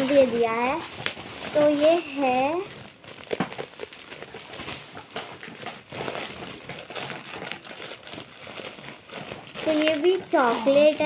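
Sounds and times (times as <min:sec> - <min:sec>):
gift wrapper crinkling: 0:00.0 - 0:11.0.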